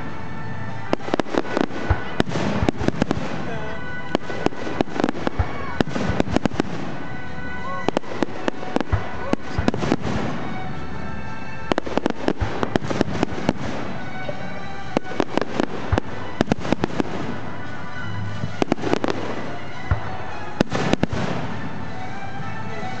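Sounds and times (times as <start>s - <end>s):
fireworks bangs and crackles: 0.0s - 23.0s
music playing: 0.0s - 23.0s.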